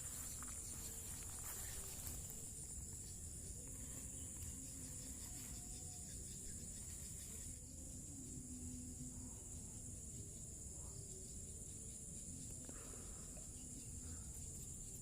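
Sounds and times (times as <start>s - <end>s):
faint low wavering tones: 0.0s - 15.0s
insects chirring: 0.0s - 15.0s.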